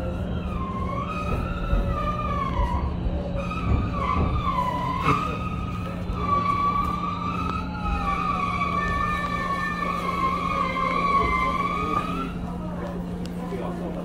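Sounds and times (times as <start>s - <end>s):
train wheels squealing: 0.0s - 12.5s.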